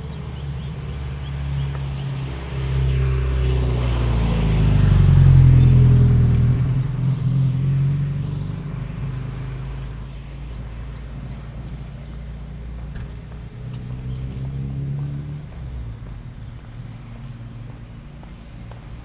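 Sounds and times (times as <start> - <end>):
vehicle engine passing by: 0.0 - 19.0.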